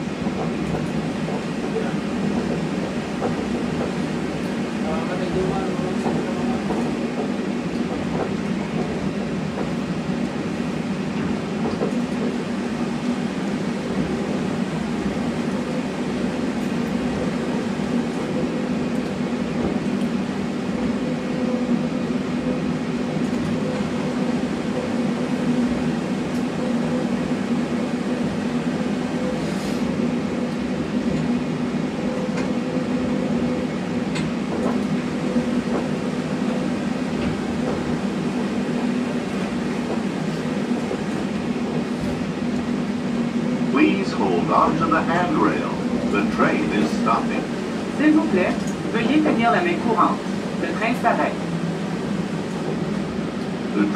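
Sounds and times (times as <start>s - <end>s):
train cabin hum and rumble: 0.0s - 53.9s.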